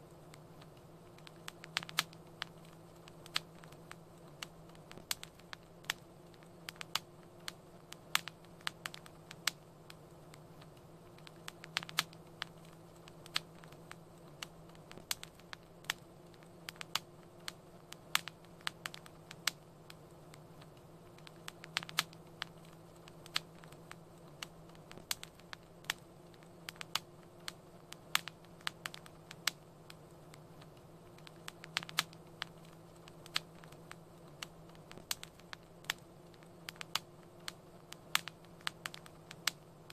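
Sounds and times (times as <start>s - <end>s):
faint low hum: 0.0s - 39.9s
wood fire crackling and popping: 0.0s - 39.9s.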